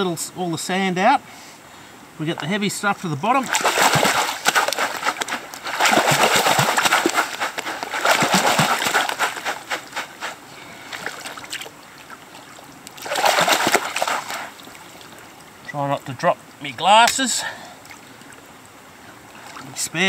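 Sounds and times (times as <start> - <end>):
water splashing and sloshing: 3.2 - 15.8, 16.4 - 20.0.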